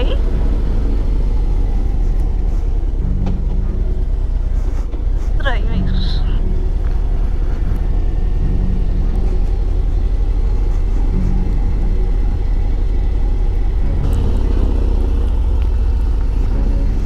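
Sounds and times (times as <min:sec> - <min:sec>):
motorcycle engine droning: 0:00.0 - 0:17.0.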